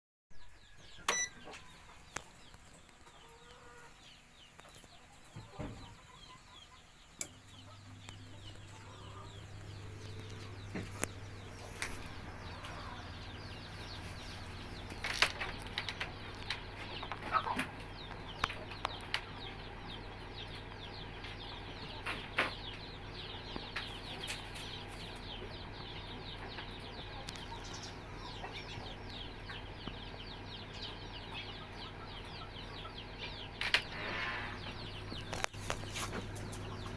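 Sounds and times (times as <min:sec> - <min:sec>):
chicks peeping: 0:00.4 - 0:36.9
incubator machinery hum: 0:00.4 - 0:36.9.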